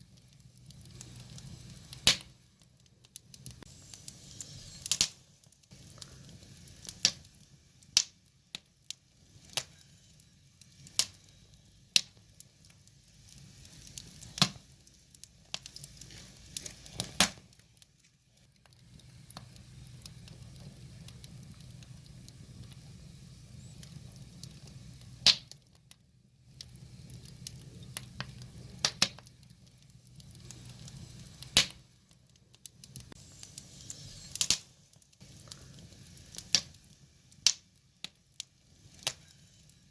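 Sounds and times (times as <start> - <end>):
faint low rumble: 0.0 - 39.9
wood fire crackling and popping: 0.0 - 39.9.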